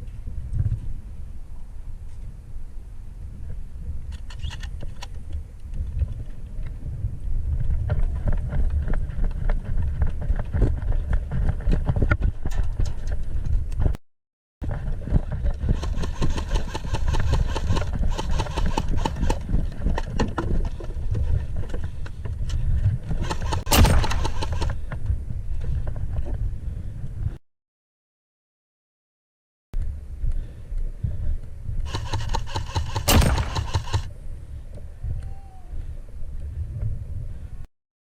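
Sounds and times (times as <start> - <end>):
wind rumble: 0.0 - 14.0, 14.6 - 27.4, 29.8 - 37.7.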